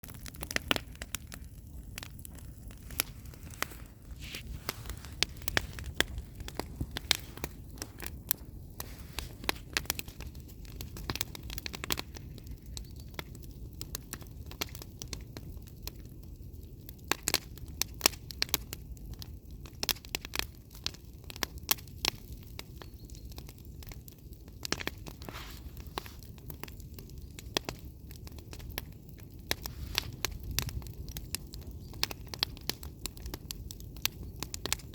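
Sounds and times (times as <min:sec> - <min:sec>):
campfire crackling: 0:00.0 - 0:34.9.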